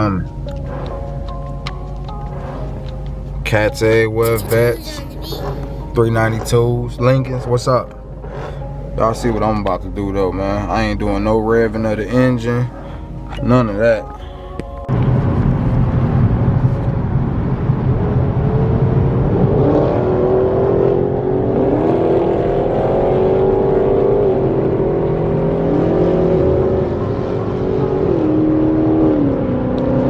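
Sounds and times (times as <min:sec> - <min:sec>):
muscle car engines accelerating: 0:00.0 - 0:14.2, 0:14.8 - 0:30.0.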